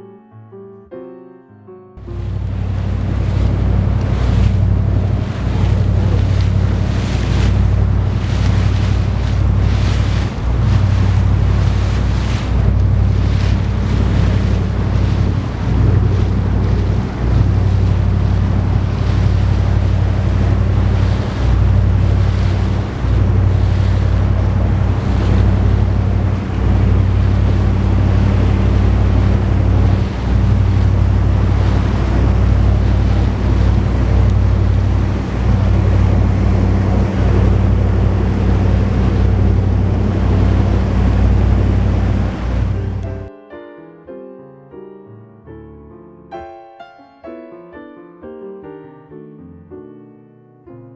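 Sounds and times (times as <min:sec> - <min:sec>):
boat engine drone: 0:02.0 - 0:43.3
water rushing past hull: 0:02.0 - 0:43.3
wind buffeting microphone: 0:02.0 - 0:43.3.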